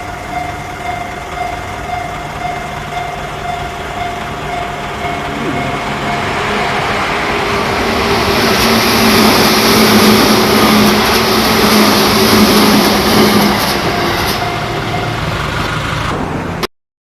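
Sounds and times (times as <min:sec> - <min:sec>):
electric train passing: 0:00.0 - 0:16.7.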